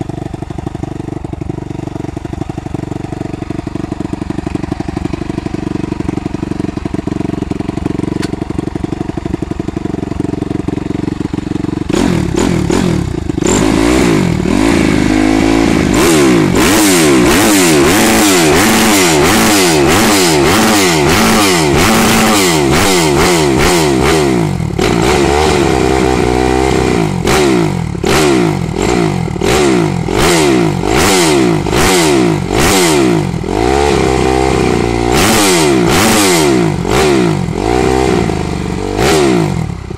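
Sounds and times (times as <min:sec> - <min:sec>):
motocross engine idling and revving: 0:00.0 - 0:39.9.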